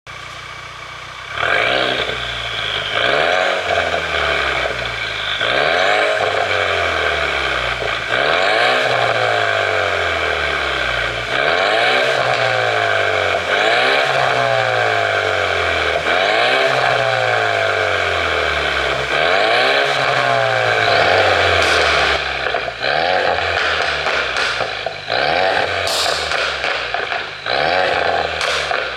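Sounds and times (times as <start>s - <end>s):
car engine free-revving: 0.1s - 28.9s.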